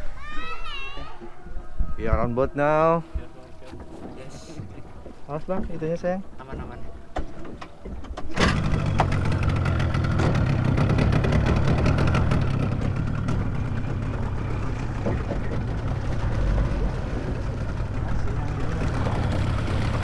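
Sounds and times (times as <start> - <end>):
motorboat engine rumbling: 2.9 - 20.0.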